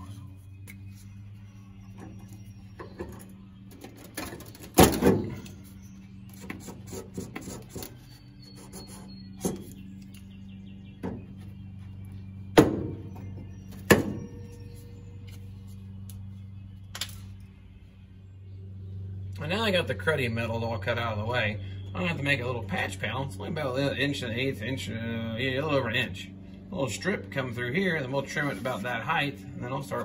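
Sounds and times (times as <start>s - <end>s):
background music with low drone: 0.0s - 30.0s.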